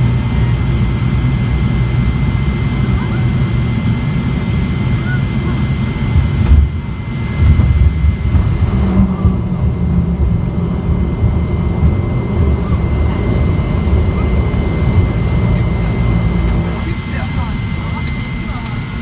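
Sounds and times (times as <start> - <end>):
turboprop floatplane taxiing: 0.0 - 19.0.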